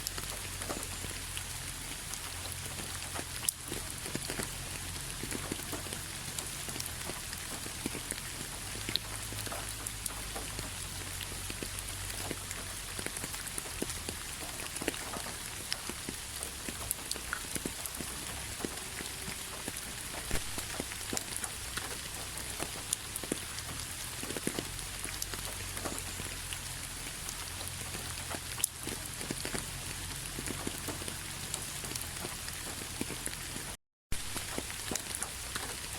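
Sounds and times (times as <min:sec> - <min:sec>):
raindrops pattering: 0:00.0 - 0:35.9
steady rain hiss: 0:00.0 - 0:35.9.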